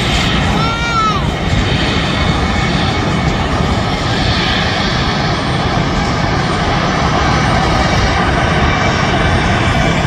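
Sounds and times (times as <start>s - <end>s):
jet engines at high power: 0.0s - 10.0s.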